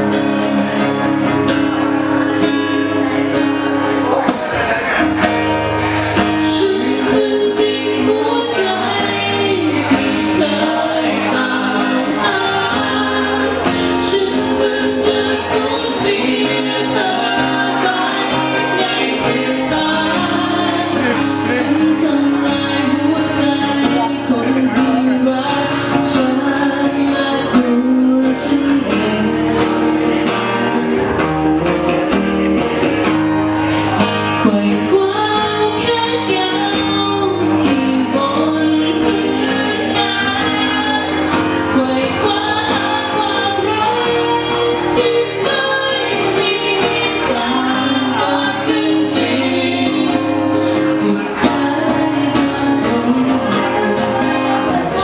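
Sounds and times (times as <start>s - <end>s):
song with guitar and singing: 0.0s - 55.0s.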